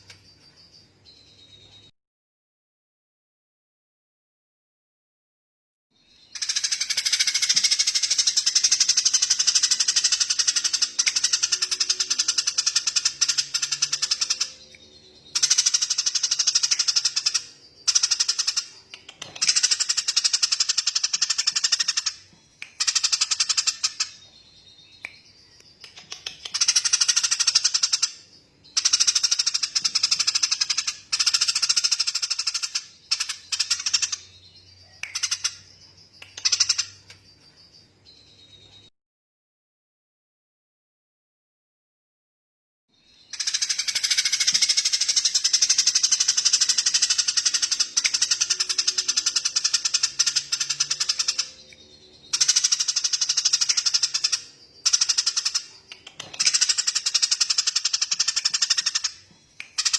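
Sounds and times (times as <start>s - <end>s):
songbird chattering trills: 6.2s - 38.9s, 43.1s - 59.9s.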